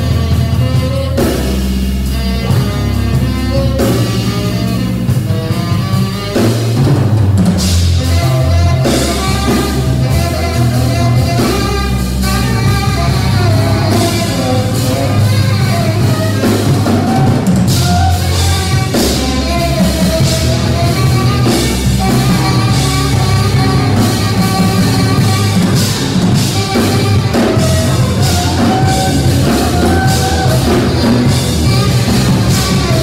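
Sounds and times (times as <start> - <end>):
busy drum kit: 0.0 - 33.0
tenor saxophone: 0.0 - 33.0.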